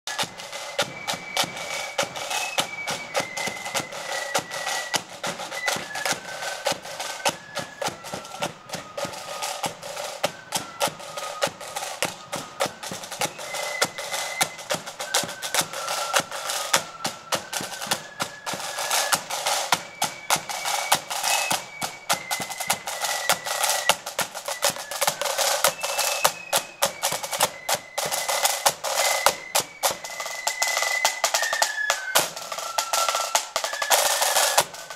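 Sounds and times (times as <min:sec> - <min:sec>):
marching flute band playing: 0:00.1 - 0:34.9
rapid snare drumming: 0:00.1 - 0:34.9.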